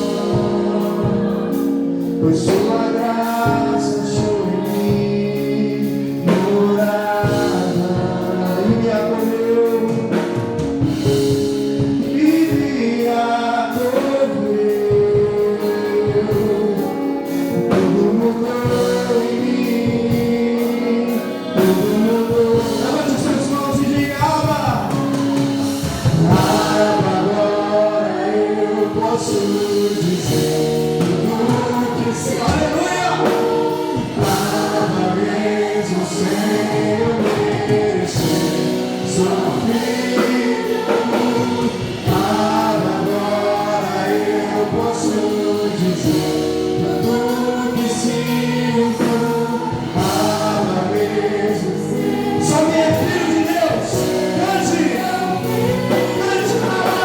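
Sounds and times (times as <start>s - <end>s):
band accompaniment: 0.0s - 57.0s
choir singing gospel: 0.0s - 57.0s.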